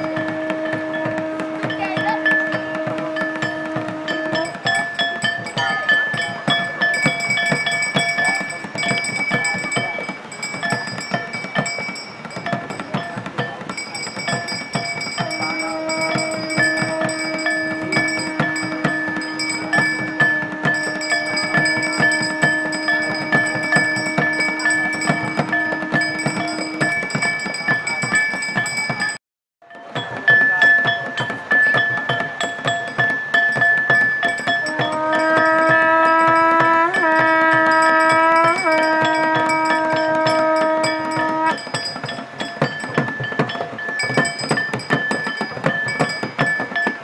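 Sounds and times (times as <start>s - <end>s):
fast drumming: 0.0s - 47.0s
metal bell ringing: 0.0s - 47.0s.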